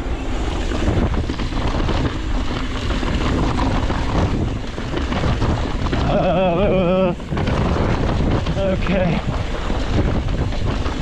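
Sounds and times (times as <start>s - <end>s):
wind rushing over microphone: 0.0s - 11.0s
bike tyres crunching over stones: 0.4s - 11.0s.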